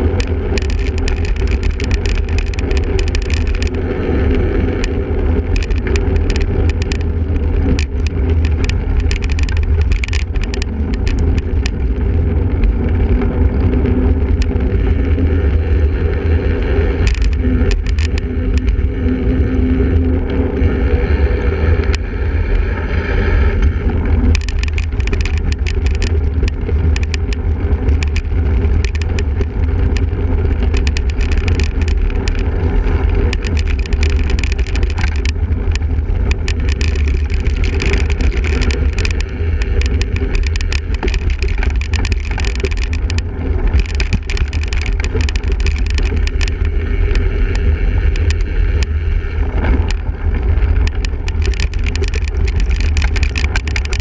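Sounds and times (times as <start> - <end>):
bike clicks and rattles: 0.0 - 54.0
wind rumble on microphone: 0.0 - 54.0.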